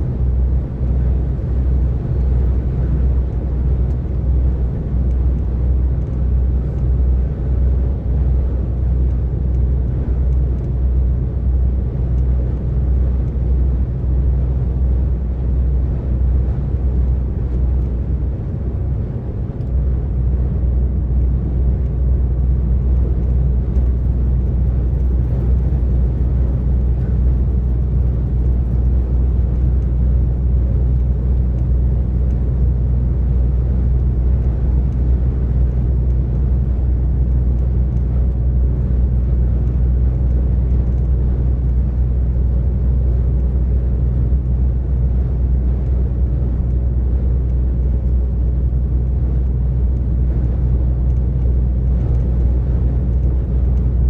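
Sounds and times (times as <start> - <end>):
lorry diesel engine droning: 0.0 - 54.0
road noise: 0.0 - 54.0.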